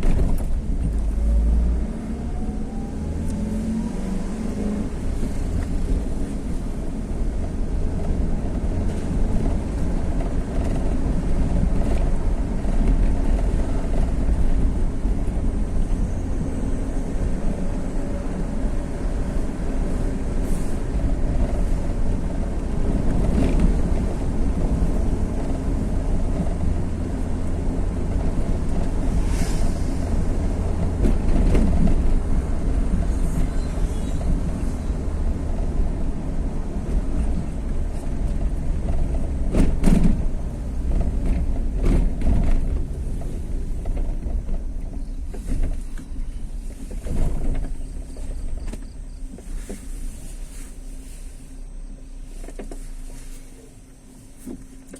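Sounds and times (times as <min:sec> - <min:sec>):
wind noise on microphone: 0:00.0 - 0:50.8
vehicle road rumble: 0:00.0 - 0:54.9.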